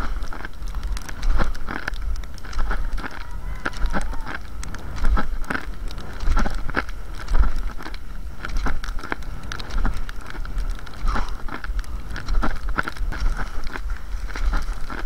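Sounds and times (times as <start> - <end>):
low wind rumble: 0.0 - 15.0
ski poles clicking: 0.0 - 15.0
skis sliding on snow: 0.0 - 15.0.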